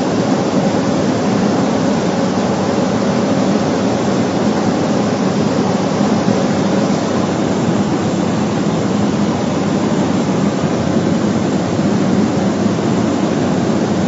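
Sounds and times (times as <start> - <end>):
rushing airflow: 0.0 - 14.0
steady low hum: 0.0 - 14.0
turboprop engine and propeller: 0.0 - 14.0.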